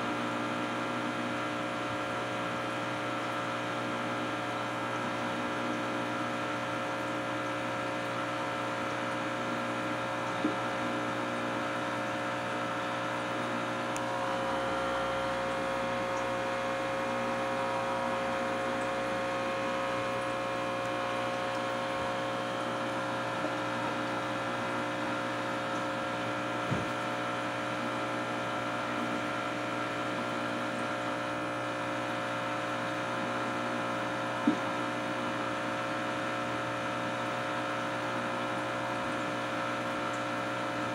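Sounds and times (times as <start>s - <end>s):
aquarium pump humming: 0.0s - 40.9s.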